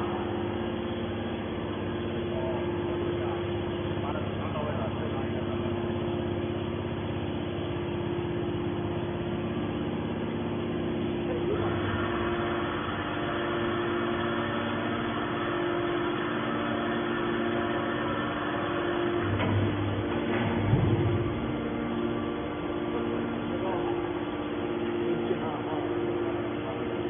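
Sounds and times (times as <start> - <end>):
hydraulic power unit humming: 0.0 - 27.0.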